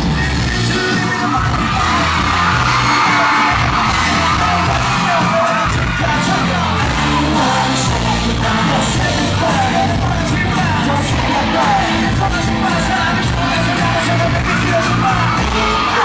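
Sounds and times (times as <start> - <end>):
fans screaming: 0.0 - 16.0
live rock band playing: 0.0 - 16.0
man singing into microphone: 0.0 - 16.0.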